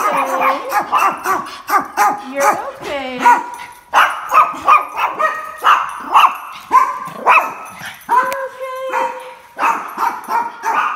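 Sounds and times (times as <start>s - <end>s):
dog barking excitedly: 0.0s - 10.9s.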